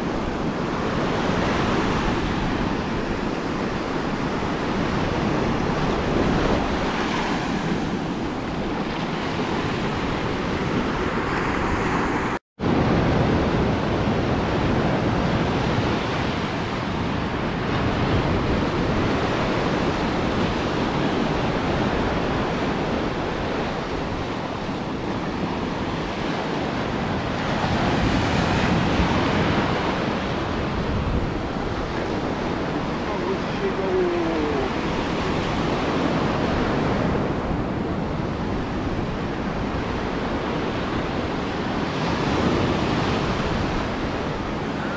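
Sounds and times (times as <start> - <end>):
ocean surf washing onto beach: 0.0 - 44.9
wind buffeting microphone: 0.0 - 44.9.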